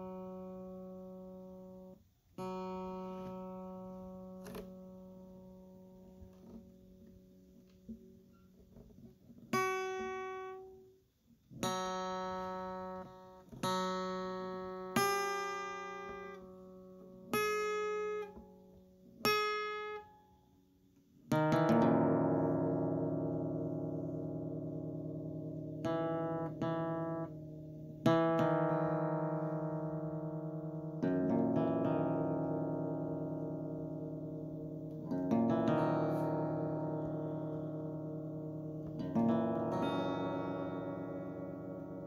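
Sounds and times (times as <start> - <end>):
acoustic guitar music: 0.0 - 42.0.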